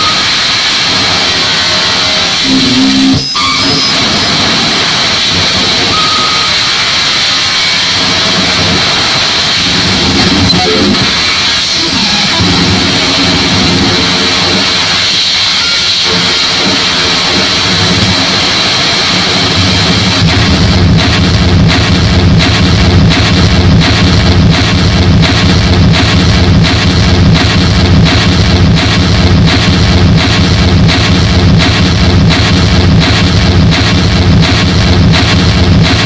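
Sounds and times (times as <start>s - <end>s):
harsh distorted noise music: 0.0s - 36.0s.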